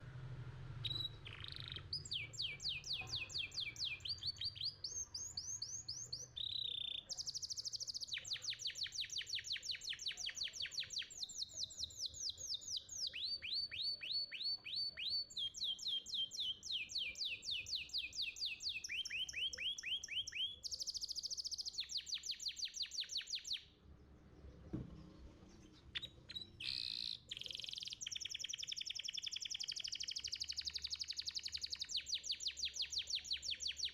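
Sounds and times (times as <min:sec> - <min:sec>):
canary singing trills: 0:00.7 - 0:33.9.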